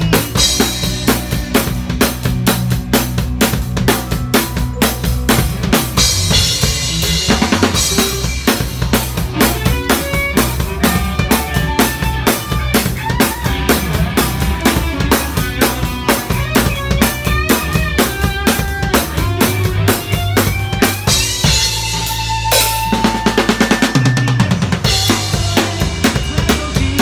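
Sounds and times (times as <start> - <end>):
loud close drums: 0.0 - 27.0
rock band playing live: 0.0 - 27.0.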